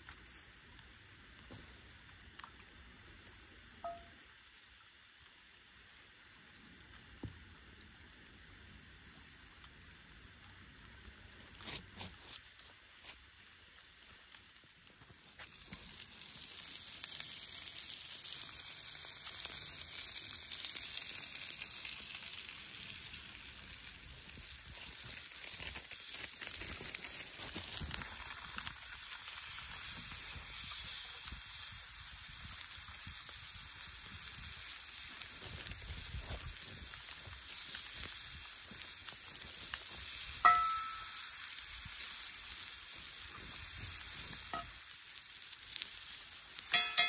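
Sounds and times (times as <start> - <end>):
food sizzling in a skillet: 0.0 - 47.0.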